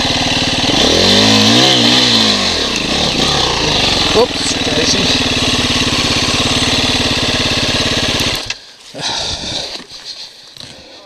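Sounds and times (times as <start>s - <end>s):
dirt bike engine running: 0.0s - 9.8s.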